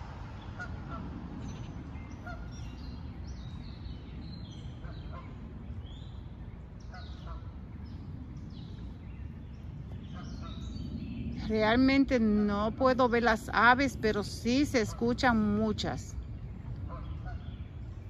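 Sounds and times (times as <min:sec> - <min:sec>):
small birds chirping and singing: 0:00.0 - 0:18.0
steady low rush: 0:00.0 - 0:18.0.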